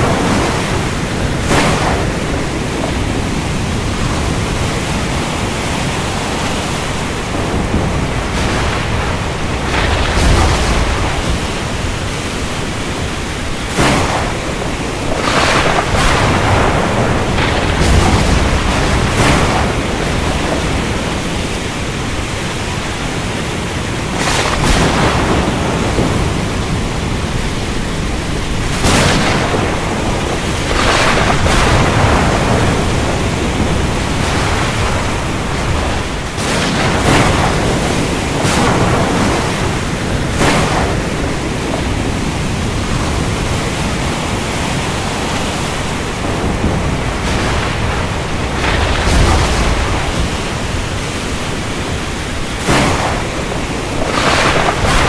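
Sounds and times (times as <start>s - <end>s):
rain hissing: 0.0s - 55.0s
surf: 0.0s - 55.0s
thunder rumbling: 0.0s - 55.0s.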